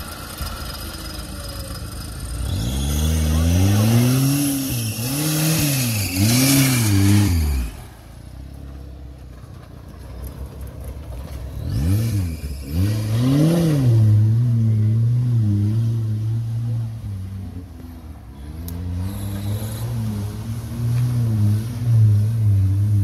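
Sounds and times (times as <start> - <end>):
engine revving: 0.0 - 8.1, 11.5 - 23.0.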